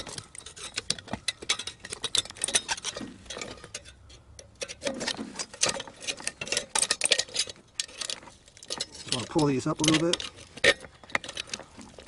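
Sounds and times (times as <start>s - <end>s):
metallic clicks taps and scrapes: 0.0s - 12.0s.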